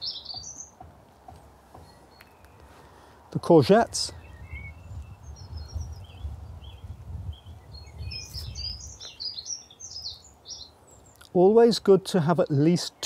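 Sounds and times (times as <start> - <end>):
small birds chirping and singing: 0.0 - 13.0.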